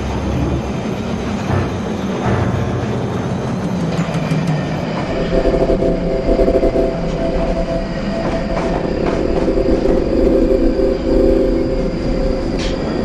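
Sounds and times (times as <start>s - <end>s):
steady humming tones: 0.0s - 13.0s
train rushing on rails: 0.0s - 13.0s.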